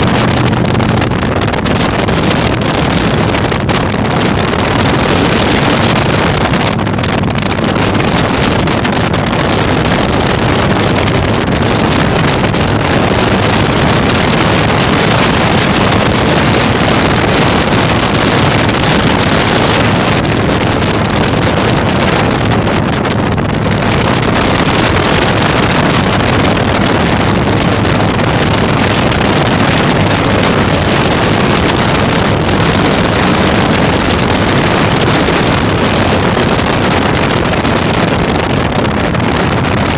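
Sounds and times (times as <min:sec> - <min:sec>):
motorcycle engine drone: 0:00.0 - 0:39.9
wind noise on microphone: 0:00.0 - 0:39.9.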